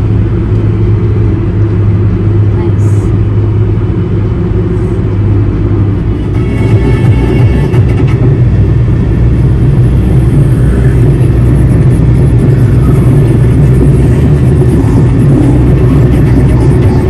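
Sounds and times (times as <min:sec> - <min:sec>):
car interior highway rumble: 0:00.0 - 0:17.0.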